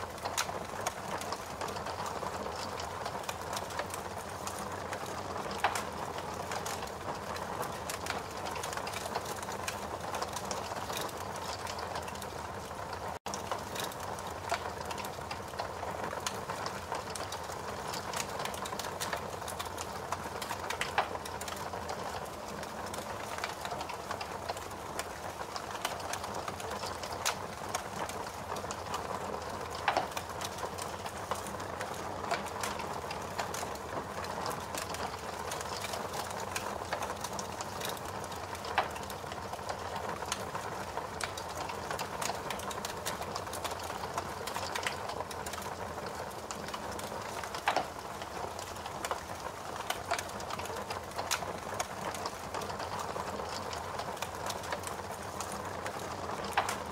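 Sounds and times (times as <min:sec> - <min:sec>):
fire crackling: 0:00.0 - 0:56.9.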